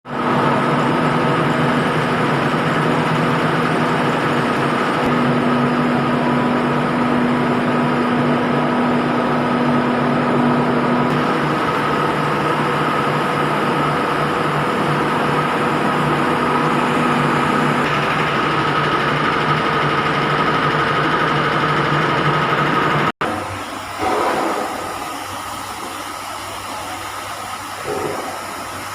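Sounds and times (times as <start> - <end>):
high machine whine: 0.1 - 28.9
refrigeration machinery hum: 0.1 - 28.9.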